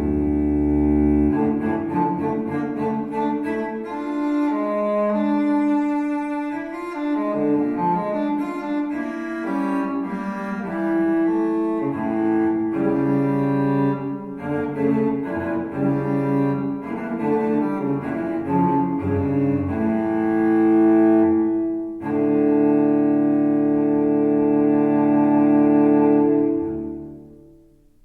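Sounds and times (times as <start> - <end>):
solo cello music over loudspeakers: 0.0 - 28.0.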